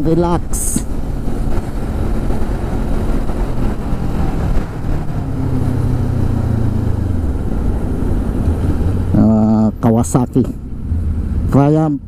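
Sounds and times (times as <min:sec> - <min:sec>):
wind noise on microphone: 0:00.0 - 0:09.8, 0:10.6 - 0:12.0.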